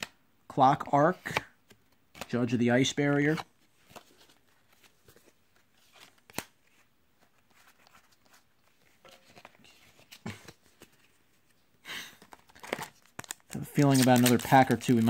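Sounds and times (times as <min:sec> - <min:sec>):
trading cards rustling: 0:02.1 - 0:15.0.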